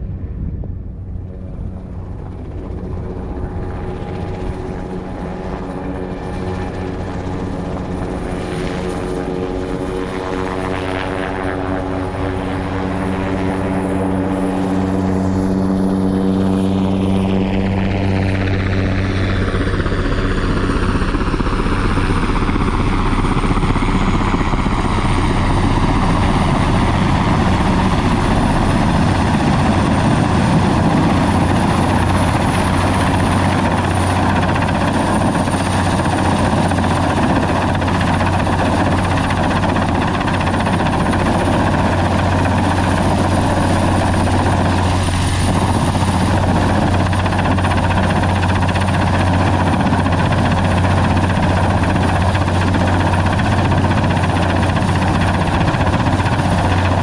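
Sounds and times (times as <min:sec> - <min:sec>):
helicopter rotor and engine: 0:00.0 - 0:57.0.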